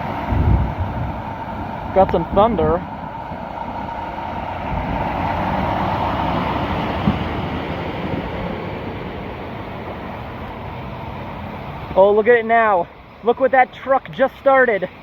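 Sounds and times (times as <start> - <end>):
truck driving through floodwater: 0.0 - 15.0.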